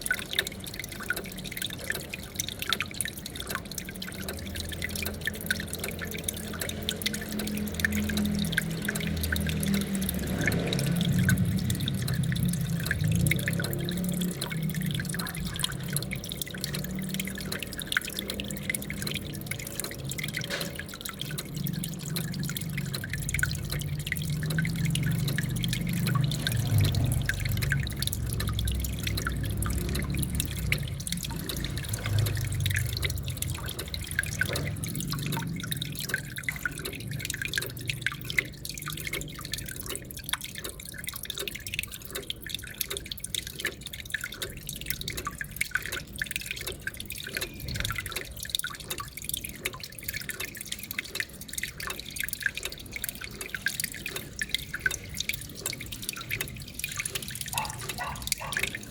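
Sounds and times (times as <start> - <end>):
low steady rumble: 0.0 - 58.9
water dripping: 0.0 - 58.9
water splashing and trickling: 0.0 - 58.9.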